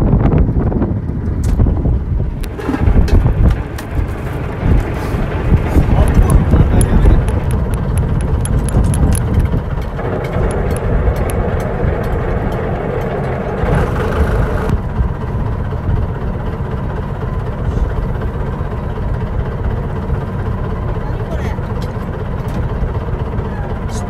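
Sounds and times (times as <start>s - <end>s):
boat engine rumbling: 0.0s - 24.0s.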